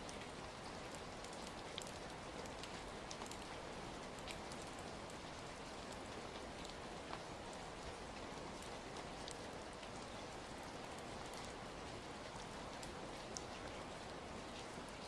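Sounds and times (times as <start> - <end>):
fire crackling: 0.0 - 15.0
steady rain: 0.0 - 15.0.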